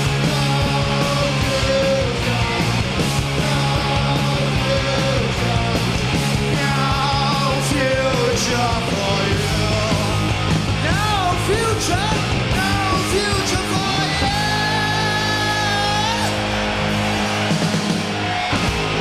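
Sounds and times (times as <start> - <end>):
bass guitar: 0.0 - 19.0
distorted electric guitar: 0.0 - 19.0
drums: 0.0 - 19.0.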